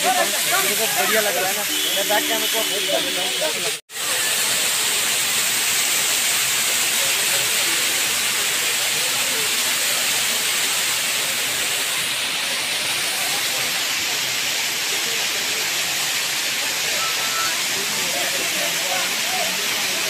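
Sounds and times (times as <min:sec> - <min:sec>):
waterfall splashing over rocks: 0:00.0 - 0:20.0.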